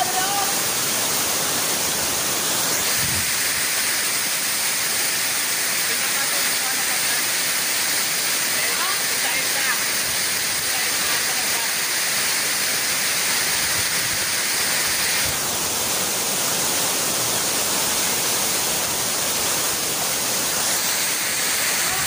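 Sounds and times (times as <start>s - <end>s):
waterfall splashing: 0.0s - 22.0s.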